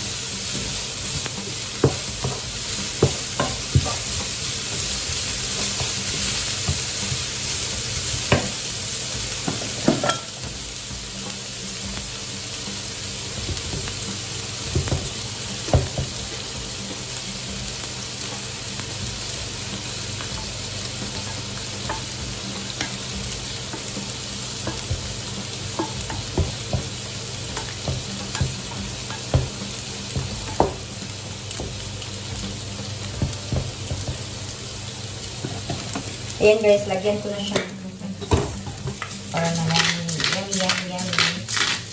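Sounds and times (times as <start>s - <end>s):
bacon sizzling in a frying pan: 0.0s - 41.9s.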